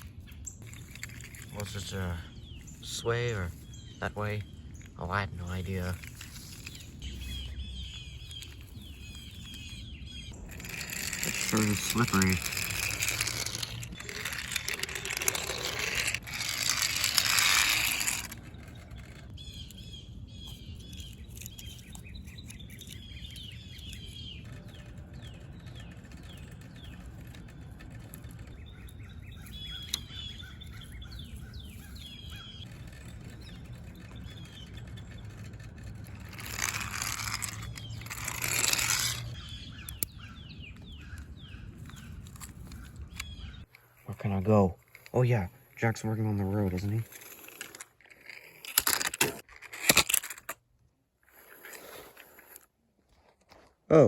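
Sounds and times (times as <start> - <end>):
small birds chirping: 0.0 - 48.7.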